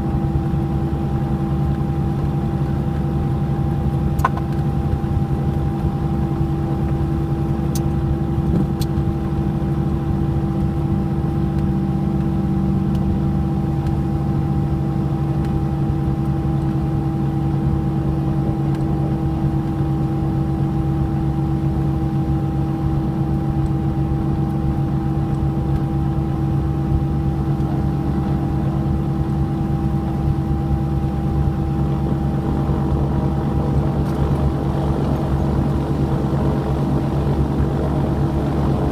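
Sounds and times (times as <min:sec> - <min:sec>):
propeller aircraft engines droning: 0:00.0 - 0:38.9.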